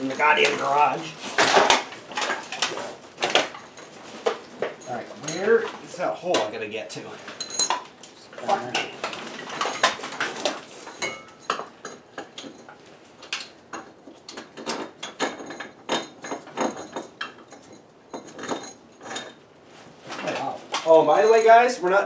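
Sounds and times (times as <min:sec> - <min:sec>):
metal hardware clicking and clinking: 0:00.0 - 0:06.6, 0:07.2 - 0:19.4, 0:20.2 - 0:21.8.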